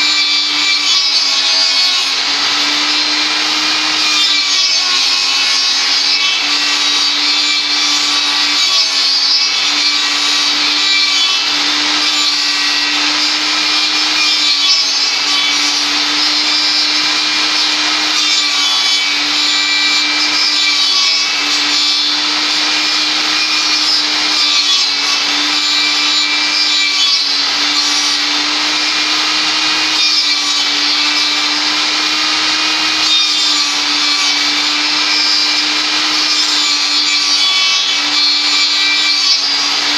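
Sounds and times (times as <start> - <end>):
saw blade cutting wood: 0.0 - 39.9
table saw motor hum: 0.0 - 39.9.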